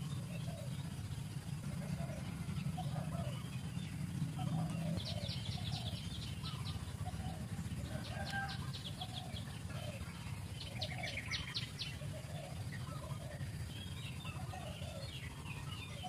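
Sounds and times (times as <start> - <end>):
rapid high bird chirps: 0.0 - 16.0
soft low bird calls: 0.0 - 16.0
steady low rumble: 0.0 - 16.0.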